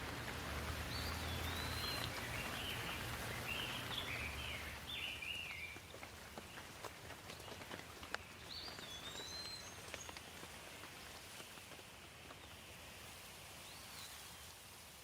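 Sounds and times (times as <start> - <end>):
raindrops tapping: 0.0 - 13.1
light rain falling: 0.0 - 15.0.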